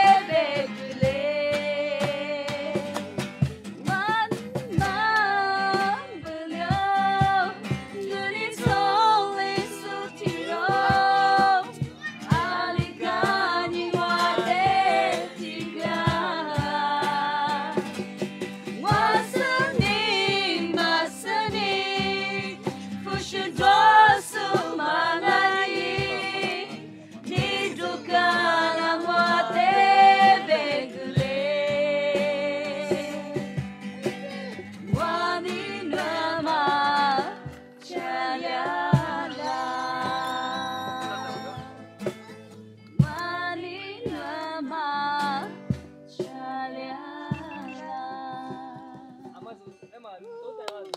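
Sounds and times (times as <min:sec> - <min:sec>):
song with singing and beat: 0:00.0 - 0:50.1.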